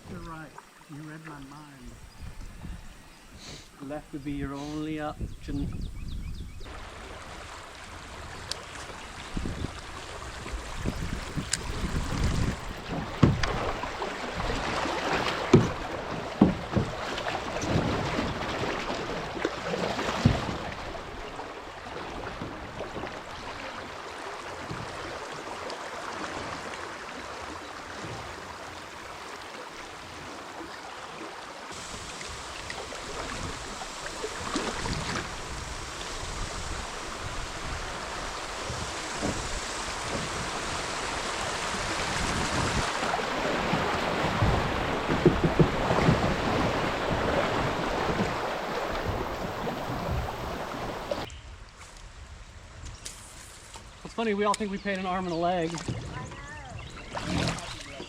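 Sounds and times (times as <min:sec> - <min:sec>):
flowing river water: 0:00.0 - 0:58.0
paddle strokes splashing: 0:06.7 - 0:51.3, 0:52.8 - 0:58.0.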